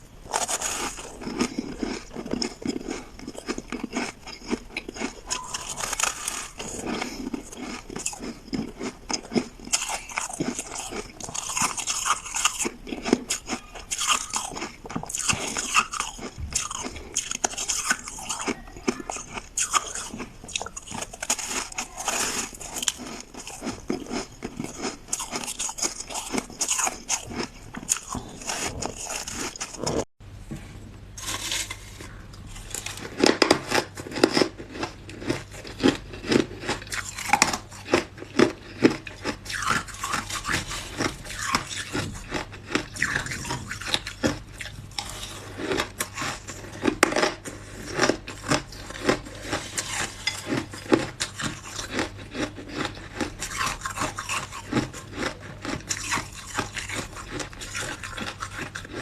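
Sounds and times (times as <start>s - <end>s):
faint low hum: 0.0s - 59.0s
ice crunching being chewed: 0.2s - 30.1s, 31.2s - 59.0s.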